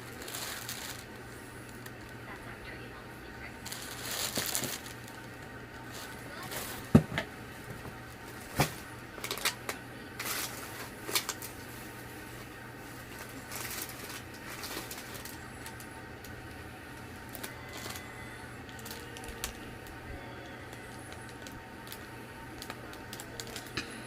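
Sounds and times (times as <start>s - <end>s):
paper and wrapping rustling: 0.0s - 2.5s, 3.4s - 16.0s, 17.0s - 24.0s.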